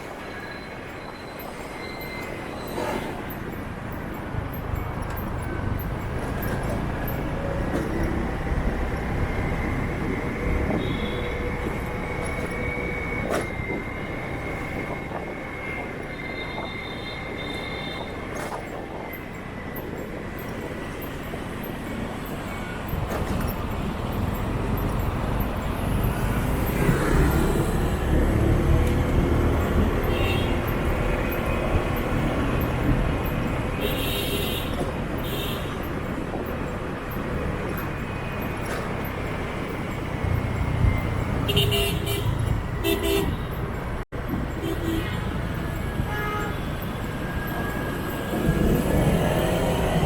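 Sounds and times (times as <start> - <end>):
road noise: 0.0 - 50.0.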